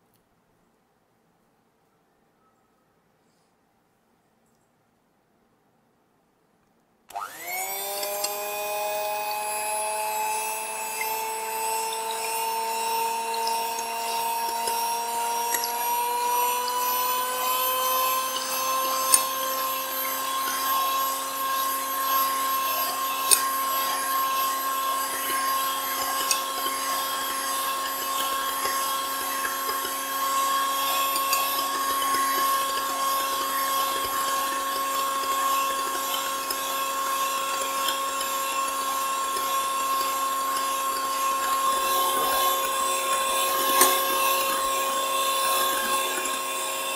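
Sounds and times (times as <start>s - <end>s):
electric hand mixer whining: 7.1s - 46.9s
mixer clicks: 7.1s - 46.9s.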